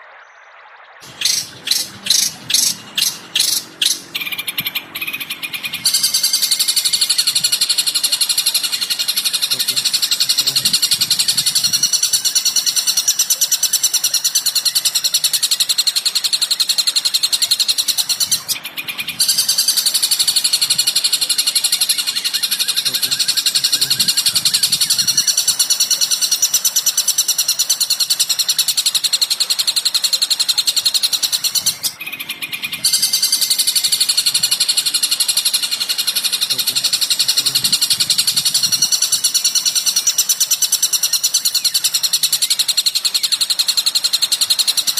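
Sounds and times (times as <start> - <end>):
rapid high-pitched bird chattering: 1.0 - 44.9.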